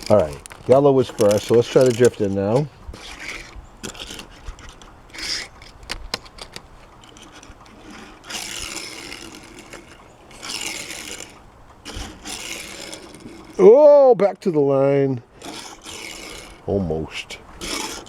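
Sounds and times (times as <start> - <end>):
toy car clicks: 0.0 - 13.6, 15.4 - 16.6, 17.6 - 18.0
toy cars rushing on plastic track: 0.0 - 13.7, 15.4 - 17.0, 17.6 - 18.0.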